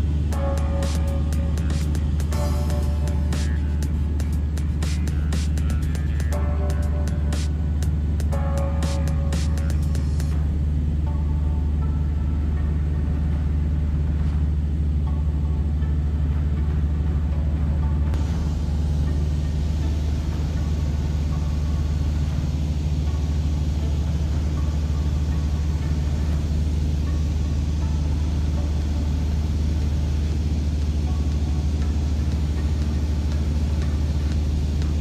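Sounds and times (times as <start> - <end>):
light aircraft engine drone: 0.0 - 35.0.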